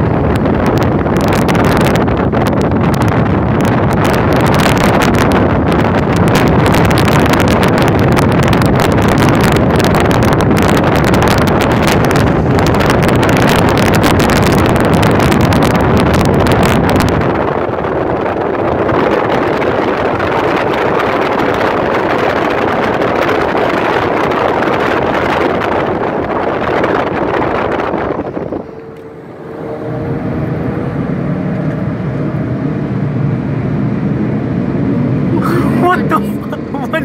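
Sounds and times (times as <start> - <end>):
vehicle road noise: 0.0 - 37.0
wind on microphone: 0.0 - 37.0.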